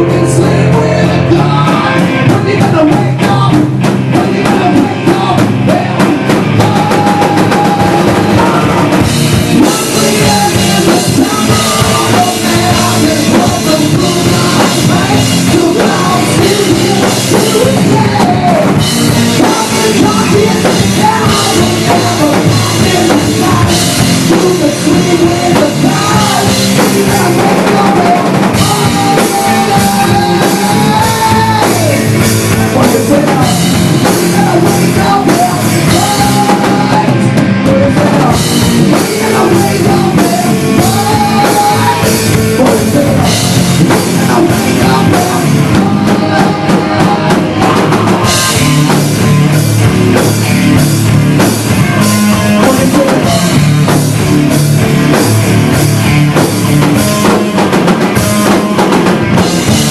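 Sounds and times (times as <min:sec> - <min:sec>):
loud instrumental rock music: 0:00.0 - 0:59.9.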